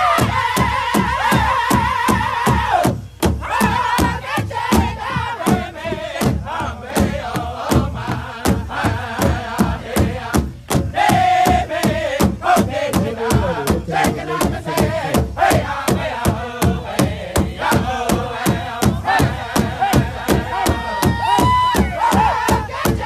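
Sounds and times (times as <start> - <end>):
large drum beating: 0.0 - 23.0
men singing in unison: 0.0 - 23.0.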